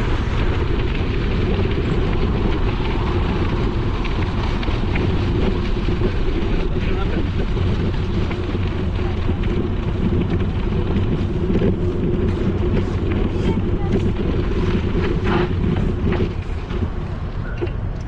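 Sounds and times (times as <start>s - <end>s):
bicycle tyres rolling on dirt: 0.0s - 18.0s
wind rumble on microphone: 0.0s - 18.0s.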